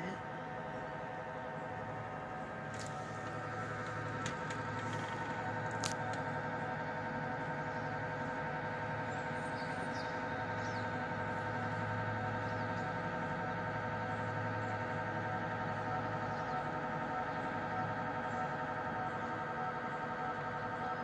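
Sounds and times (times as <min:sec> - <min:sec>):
low hum: 0:00.0 - 0:21.0
mri scanner buzzing drone: 0:00.1 - 0:21.0.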